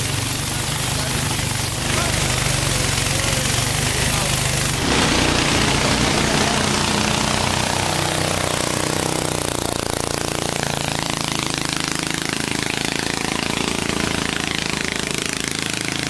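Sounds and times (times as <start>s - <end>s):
boat engine chugging: 0.0s - 16.0s.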